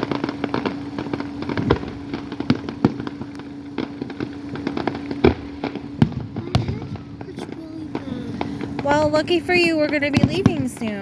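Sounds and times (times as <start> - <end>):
fireworks bangs: 0.0 - 11.0
fireworks popping and crackling: 0.0 - 11.0
steady hum: 0.0 - 11.0.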